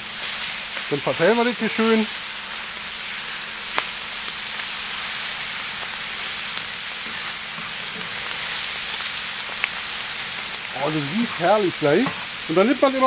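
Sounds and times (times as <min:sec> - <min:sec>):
chicken and onions sizzling: 0:00.0 - 0:13.0.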